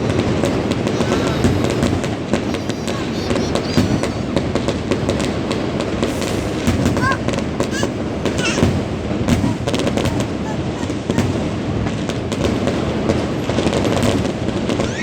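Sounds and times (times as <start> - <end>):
crowd voices: 0.0 - 14.2
fireworks crackling and banging: 0.0 - 15.0.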